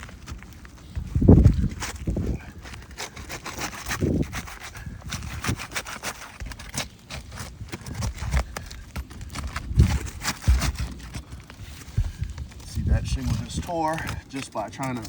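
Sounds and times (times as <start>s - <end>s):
pry tool scraping under shingles: 0.0s - 15.0s
shingles tearing: 0.0s - 15.0s.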